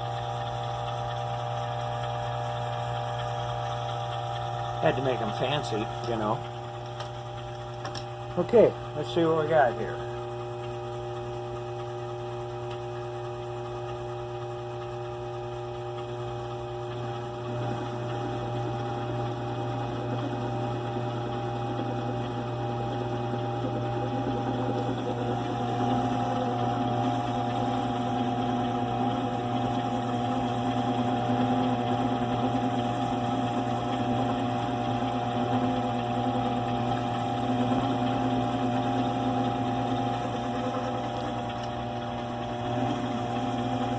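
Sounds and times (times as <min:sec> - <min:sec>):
lathe cutting noise: 0:00.0 - 0:12.4, 0:14.7 - 0:43.9
lathe motor hum and whine: 0:00.0 - 0:43.9.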